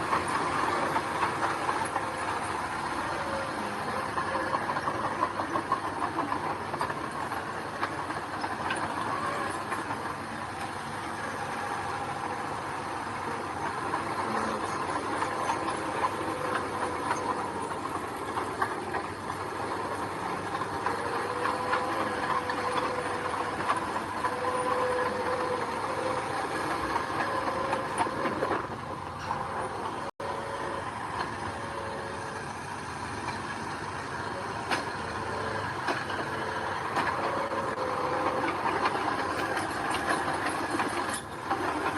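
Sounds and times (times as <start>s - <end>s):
diesel engines of heavy machinery: 0.0s - 41.9s.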